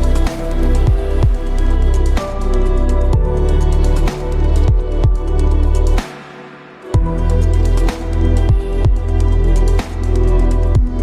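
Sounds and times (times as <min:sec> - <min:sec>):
chill electronic music: 0:00.0 - 0:11.0.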